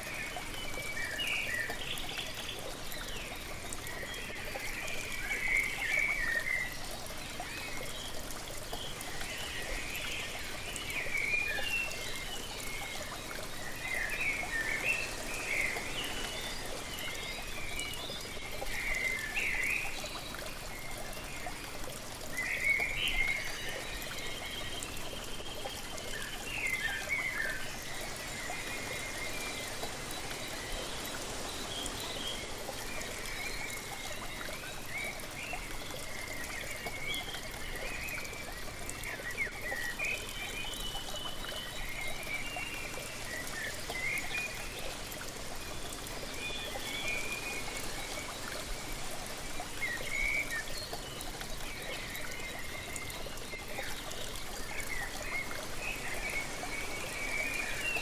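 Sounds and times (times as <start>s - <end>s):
waterfall running: 7.0s - 37.6s, 42.2s - 58.0s.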